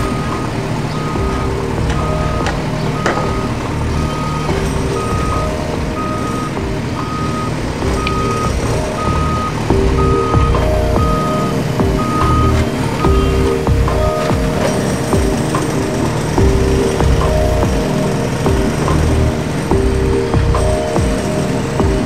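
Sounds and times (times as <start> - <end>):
low engine rumble: 0.0 - 22.0
low shifting tones: 0.0 - 22.0
reversing alarm beeping: 0.0 - 22.0.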